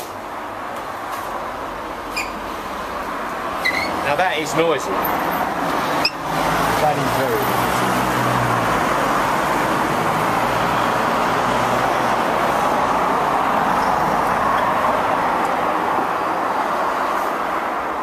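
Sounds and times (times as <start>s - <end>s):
road traffic hiss and rumble: 0.0s - 18.0s.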